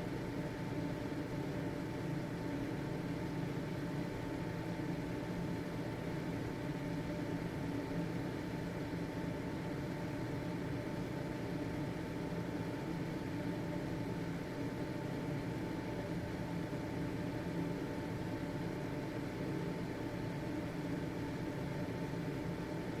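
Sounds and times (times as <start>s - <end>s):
ventilation fan running: 0.0s - 23.0s.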